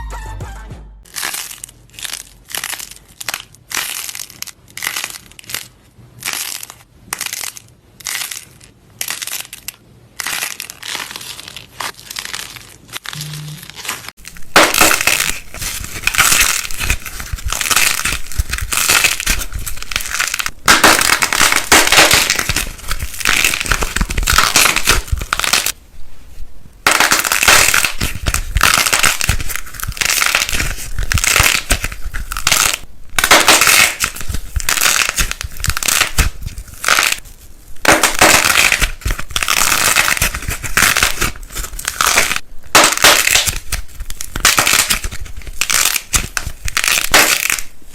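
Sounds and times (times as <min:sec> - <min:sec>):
crunching and crackling: 0:01.0 - 0:25.8, 0:26.8 - 0:47.9.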